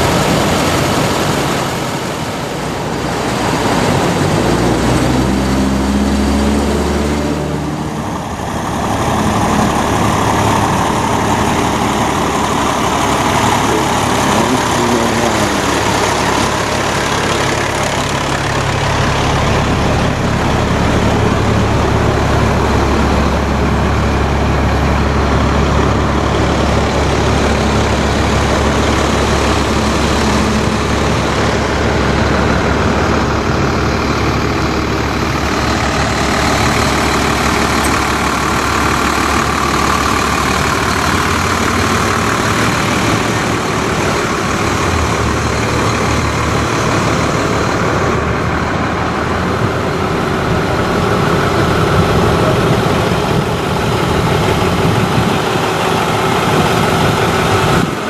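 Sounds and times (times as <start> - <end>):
diesel truck engines passing: 0.0 - 58.0
road noise: 0.0 - 58.0.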